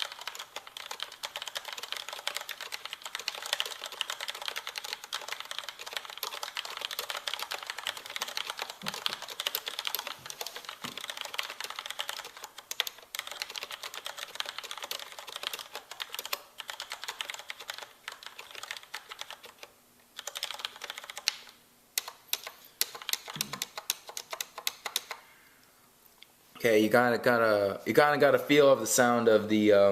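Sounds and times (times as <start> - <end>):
typing on mechanical keyboard: 0.0 - 25.2.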